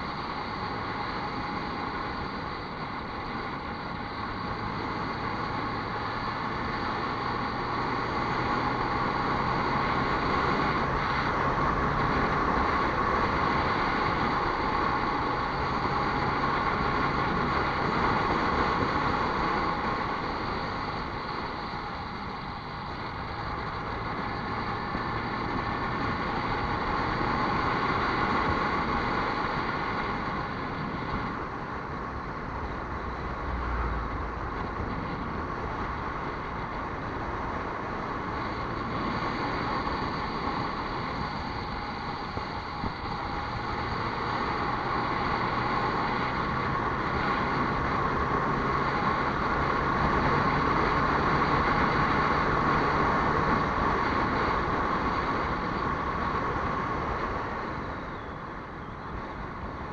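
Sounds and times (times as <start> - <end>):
road and wind noise: 0.0 - 59.9
vehicle engine: 0.0 - 59.9.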